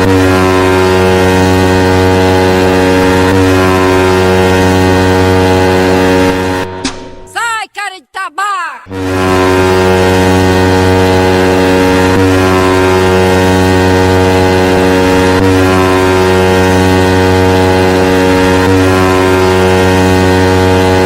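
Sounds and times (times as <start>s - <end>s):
electronic bass tone: 0.0s - 7.3s, 8.9s - 21.0s.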